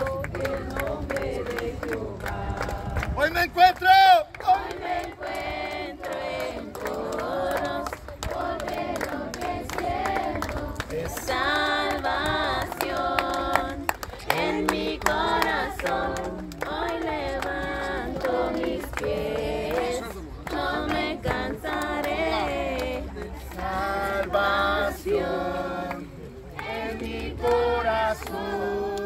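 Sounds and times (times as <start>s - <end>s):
group singing a hymn: 0.0s - 3.2s, 4.4s - 29.0s
hand clapping: 0.0s - 24.4s.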